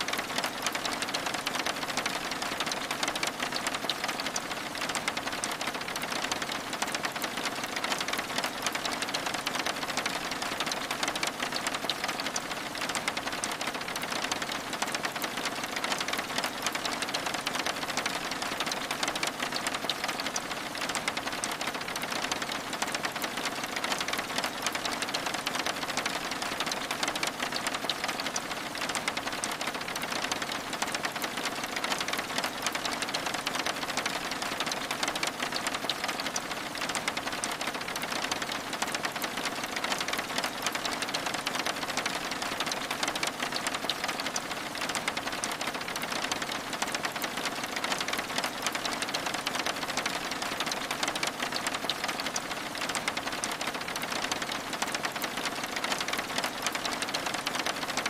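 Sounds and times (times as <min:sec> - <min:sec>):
rain pattering on window glass: 0:00.0 - 0:58.0.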